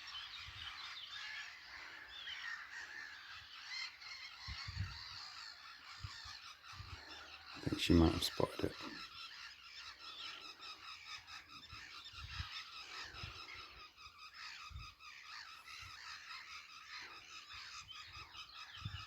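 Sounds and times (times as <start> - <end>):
distant birds calling: 0.0 - 19.0.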